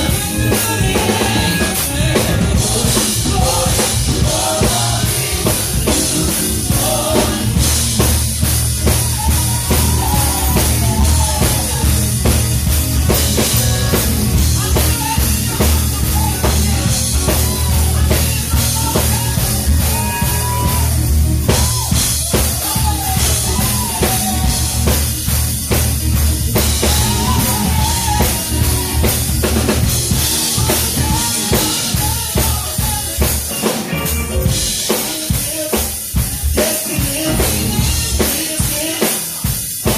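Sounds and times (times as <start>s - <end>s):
bass playing: 0.0s - 35.5s, 36.2s - 38.5s
drum kit beat: 0.0s - 39.9s.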